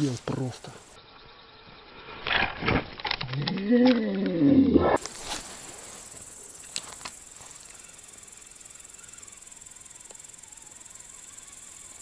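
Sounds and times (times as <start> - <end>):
high-pitched insect chirring: 0.0 - 12.0.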